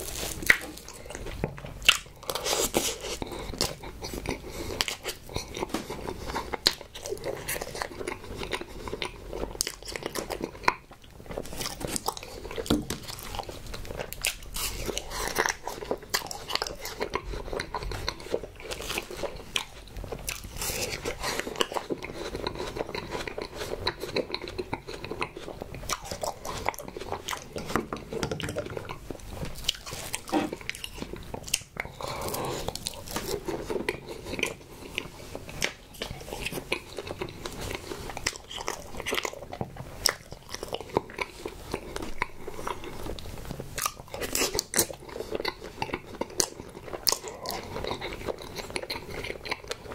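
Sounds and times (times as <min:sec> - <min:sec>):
crunching and chewing: 0:00.0 - 0:49.9.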